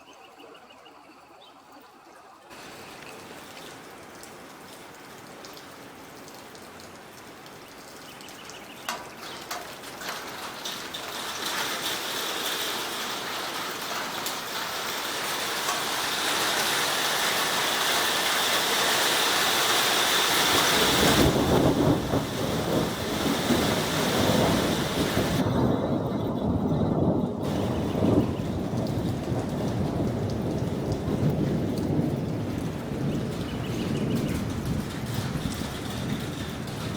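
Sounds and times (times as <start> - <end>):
rain shower: 0.0 - 36.9.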